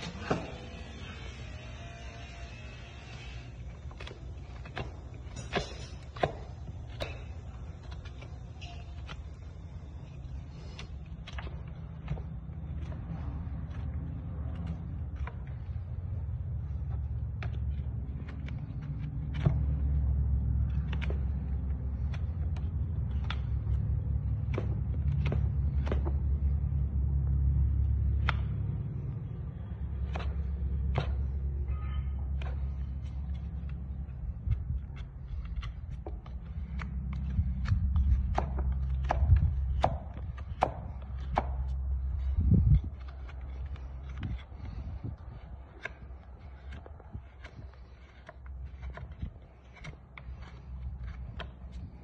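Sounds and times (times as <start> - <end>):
hoof knife and rasp scraping: 0.0 - 52.0
steady low hum: 0.0 - 52.0.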